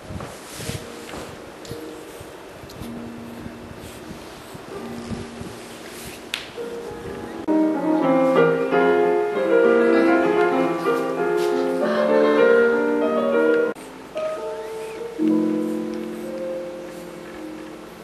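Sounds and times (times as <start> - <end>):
piano music: 0.7 - 18.0.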